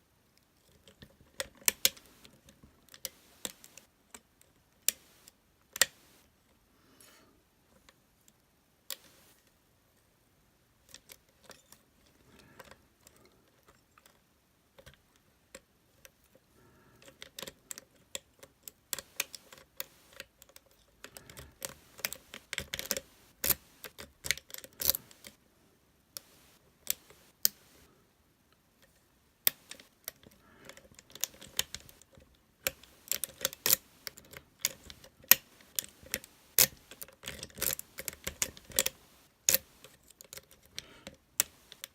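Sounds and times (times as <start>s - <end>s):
lock pick clicking and scraping: 0.6s - 6.3s, 8.9s - 9.4s, 10.9s - 25.4s, 26.2s - 27.9s, 28.8s - 41.9s.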